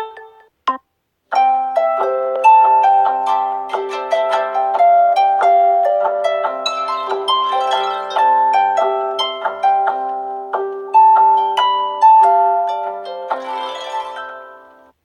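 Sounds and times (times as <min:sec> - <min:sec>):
harp-like ringtone melody: 0:01.3 - 0:15.0.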